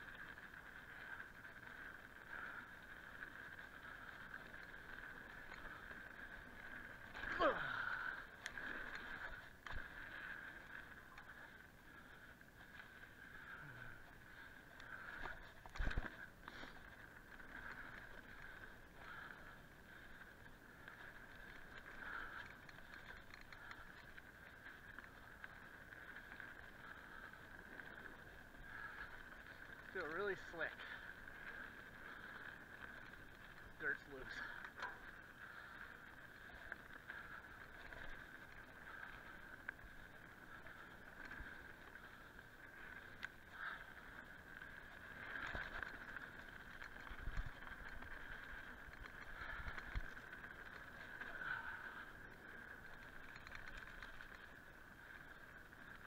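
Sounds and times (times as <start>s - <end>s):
bike tyres buzzing on dirt: 0.0s - 56.0s.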